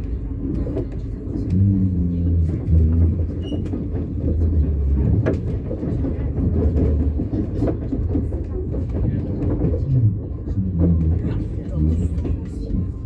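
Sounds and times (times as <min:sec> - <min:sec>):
train coach rumble: 0:00.0 - 0:13.0.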